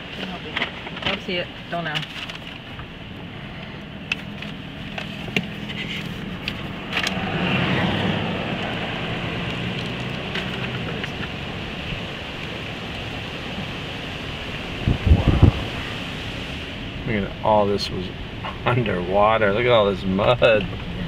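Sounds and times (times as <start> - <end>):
truck engine and tyre noise: 0.0 - 21.0.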